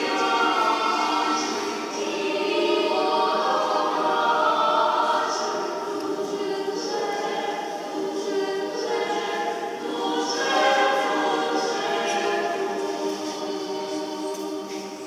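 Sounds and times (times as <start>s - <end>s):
church choir singing a cappella: 0.0s - 15.0s.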